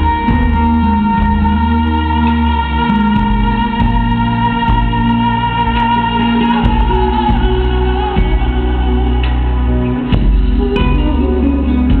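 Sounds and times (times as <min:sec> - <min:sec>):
bass accompaniment: 0:00.0 - 0:12.0
woman singing: 0:00.0 - 0:12.0.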